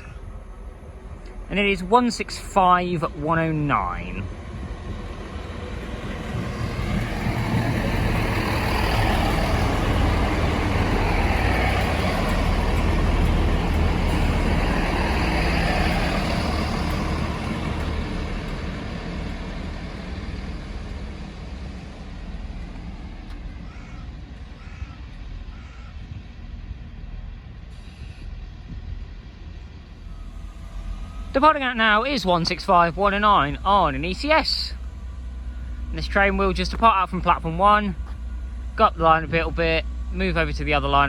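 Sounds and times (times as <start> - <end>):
diesel train engines rumbling: 0.0 - 41.0.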